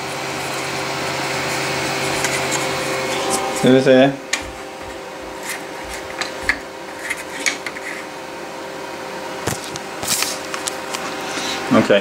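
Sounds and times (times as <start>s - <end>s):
three d printer fans humming: 0.0s - 12.0s.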